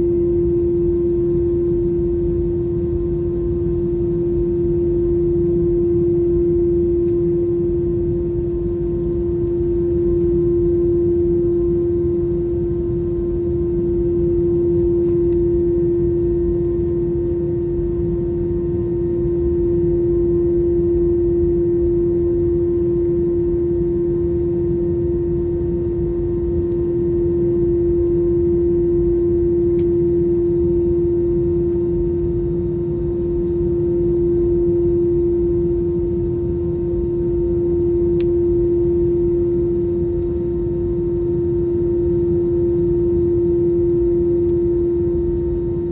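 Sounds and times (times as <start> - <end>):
airliner cabin engine hum: 0.0 - 45.9.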